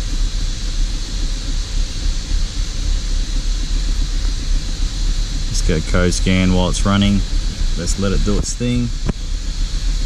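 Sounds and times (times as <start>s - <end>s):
engine idling rough: 0.0s - 10.0s
steady hiss: 0.0s - 10.0s.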